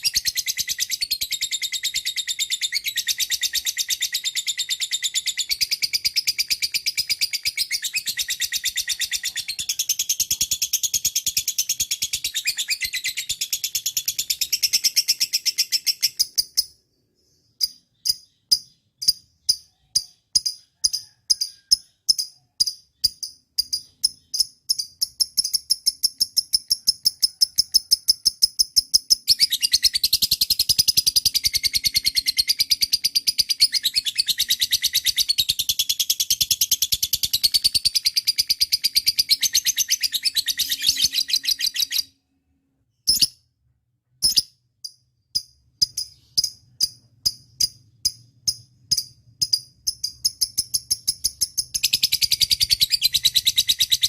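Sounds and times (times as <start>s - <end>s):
lovebird chirping and trilling: 0.0s - 42.2s, 42.9s - 43.4s, 44.2s - 54.0s.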